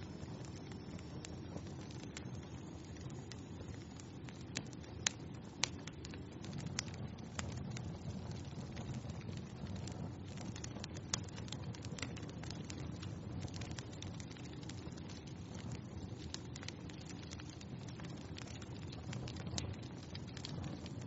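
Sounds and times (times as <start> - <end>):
fire crackling and popping: 0.0 - 21.0
flames rushing: 0.0 - 21.0.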